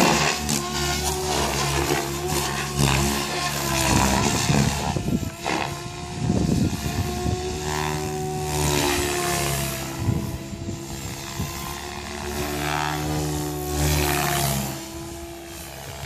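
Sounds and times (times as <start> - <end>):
electric motor whine: 0.0 - 16.0
rotor blades whooshing: 0.0 - 16.0.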